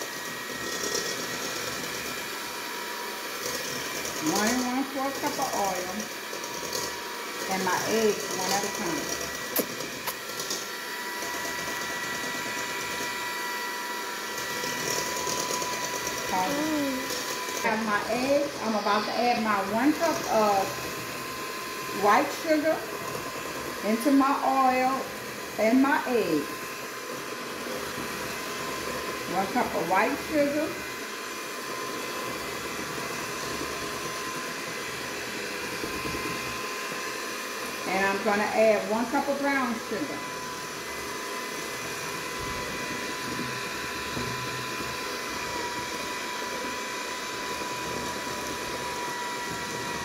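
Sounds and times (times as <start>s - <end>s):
electric hand mixer whining: 0.0s - 50.0s.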